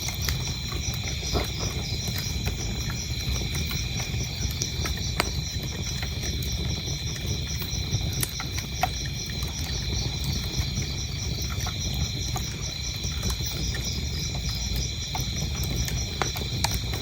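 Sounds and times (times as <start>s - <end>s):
crickets chirping: 0.0s - 17.0s
fire crackles and pops: 0.0s - 17.0s
fire rumbling in fireplace: 0.0s - 17.0s.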